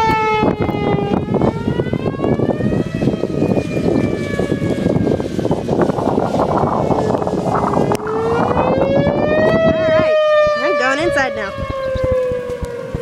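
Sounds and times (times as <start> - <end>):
rush of rain: 0.0 - 10.2, 11.5 - 13.0
warning siren wailing: 0.0 - 13.0.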